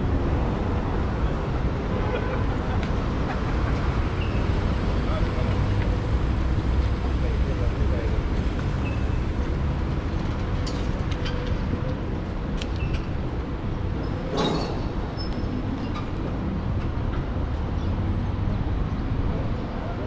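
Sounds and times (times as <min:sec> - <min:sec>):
city road traffic rumble: 0:00.0 - 0:20.0.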